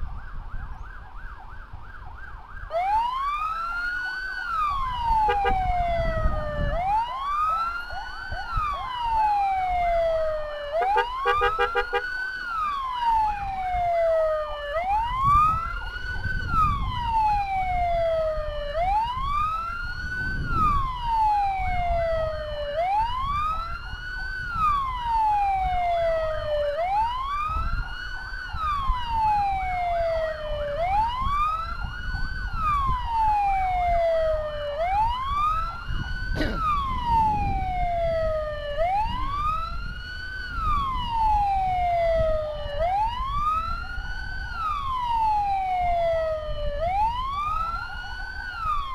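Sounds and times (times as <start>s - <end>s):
electronic siren wailing: 0.0s - 48.9s
road rumble: 0.0s - 48.9s.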